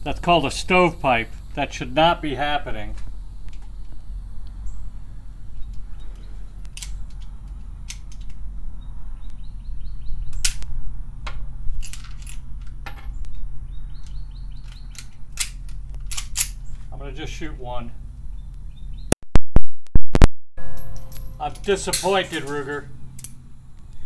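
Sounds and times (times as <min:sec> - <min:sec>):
steady low hum: 0:00.0 - 0:19.2, 0:20.6 - 0:24.0.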